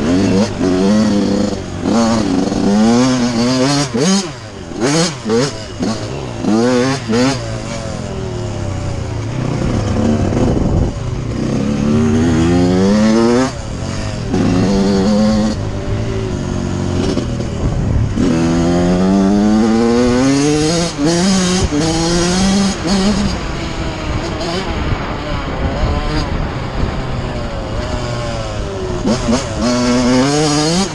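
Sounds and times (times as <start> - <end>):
two-stroke engine accelerating: 0.0 - 30.9.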